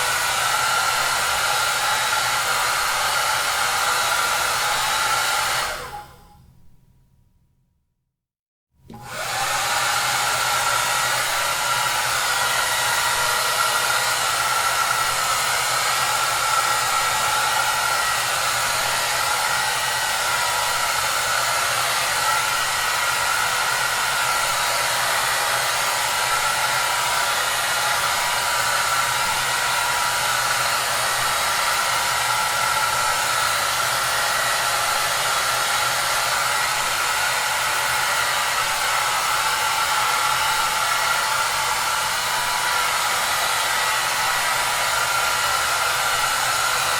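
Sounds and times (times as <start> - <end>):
hair dryer running: 0.0 - 6.4, 8.9 - 46.9.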